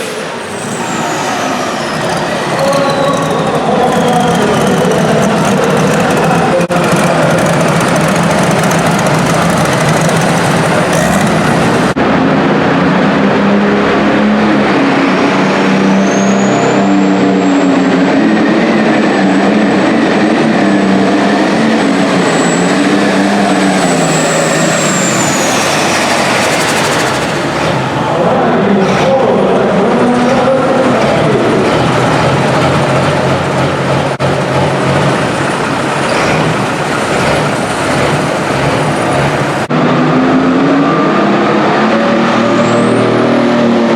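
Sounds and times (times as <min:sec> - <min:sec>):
turbocharger whine: 0:01.8 - 0:43.9
tractor engine at full throttle: 0:02.1 - 0:16.0, 0:16.8 - 0:43.9.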